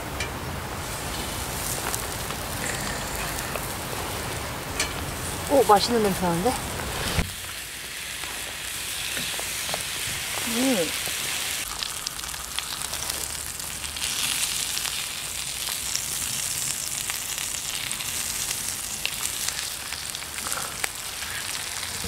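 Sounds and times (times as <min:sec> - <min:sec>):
meat sizzling in a frying pan: 0:00.8 - 0:22.0.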